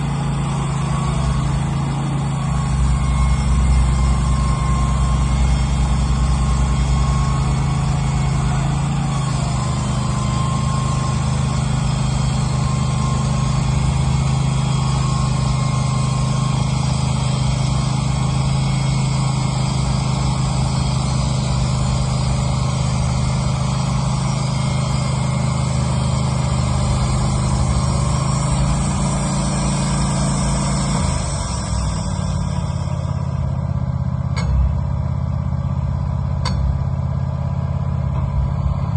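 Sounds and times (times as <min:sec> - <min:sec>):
sawmill engine drone: 0:00.0 - 0:38.9.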